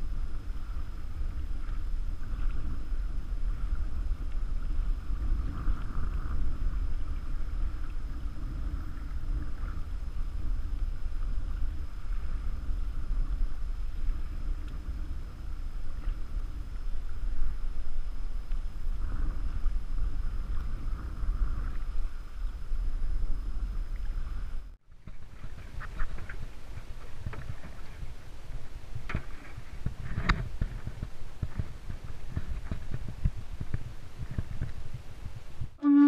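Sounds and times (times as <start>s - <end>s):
wind buffeting microphone: 0.0s - 36.0s
water splashing against canoe: 0.4s - 36.0s.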